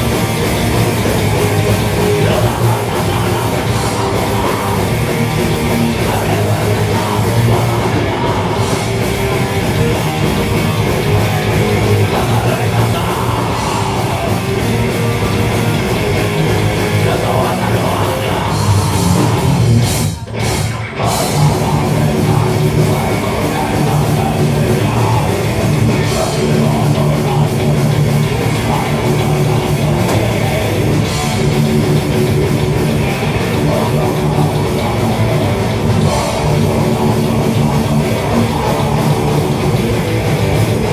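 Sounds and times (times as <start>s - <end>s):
distorted electric guitars: 0.0s - 40.9s
drum kit: 0.0s - 40.9s
person singing into a microphone: 0.5s - 19.6s, 20.9s - 40.9s.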